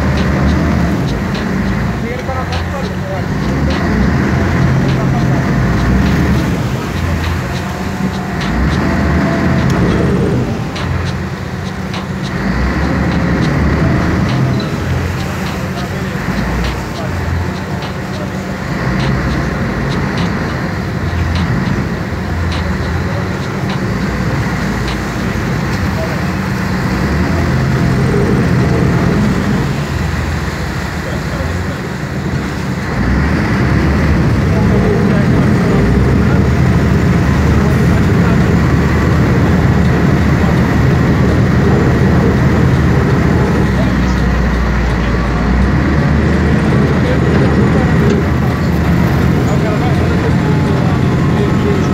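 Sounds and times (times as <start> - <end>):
ferry engine humming: 0.0 - 51.9
water splashing against hull: 0.0 - 51.9.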